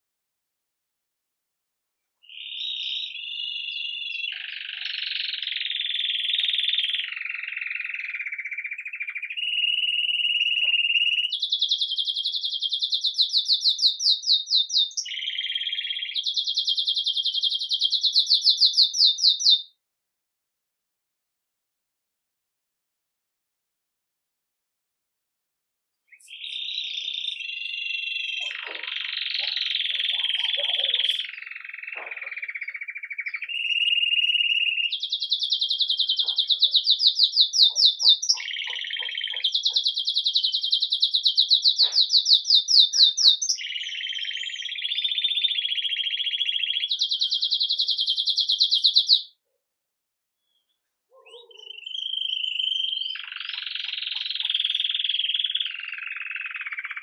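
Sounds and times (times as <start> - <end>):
canary singing with rolling trills: 2.2 - 19.7, 26.1 - 49.5, 50.5 - 57.0.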